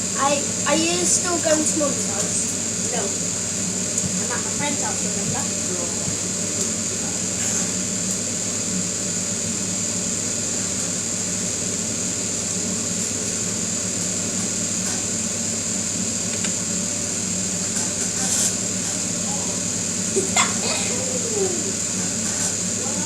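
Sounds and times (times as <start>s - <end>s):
motor and fan running: 0.0s - 23.0s.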